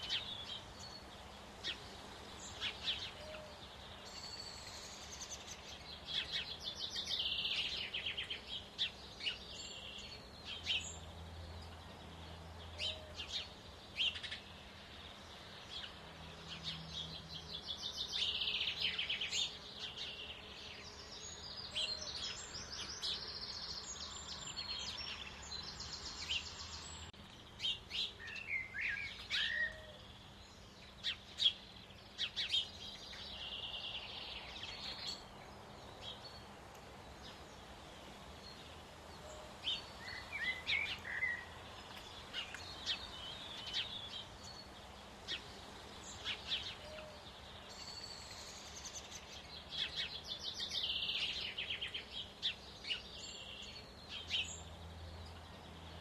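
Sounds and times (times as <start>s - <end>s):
bird chirps: 0.0s - 36.5s, 38.4s - 56.0s
songbirds trilling: 0.0s - 56.0s.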